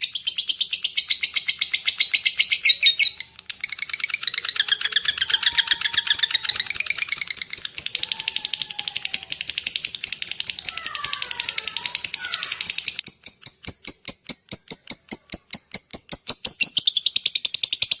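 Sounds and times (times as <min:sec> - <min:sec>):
lovebird chattering high chirps: 0:00.0 - 0:18.0.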